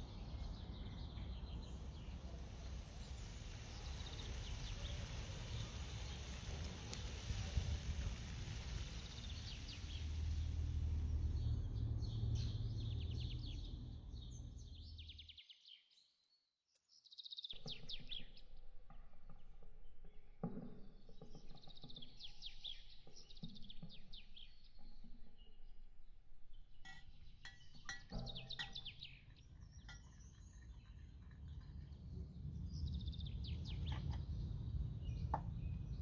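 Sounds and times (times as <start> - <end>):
small birds chirping: 0.0 - 18.6, 21.2 - 36.0.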